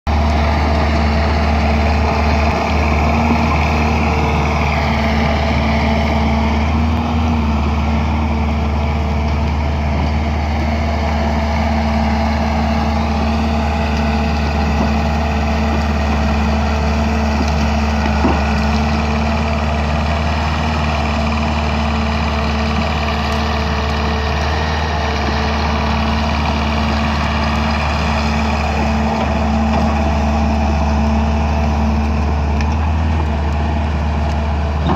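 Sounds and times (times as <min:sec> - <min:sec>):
bulldozer diesel engine drone: 0:00.0 - 0:34.9.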